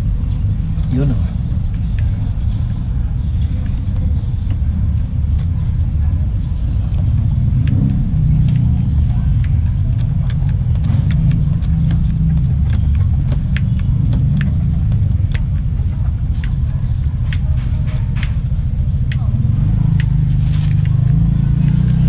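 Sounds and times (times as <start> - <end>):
sharp clicks and ticks: 0.0 - 22.0.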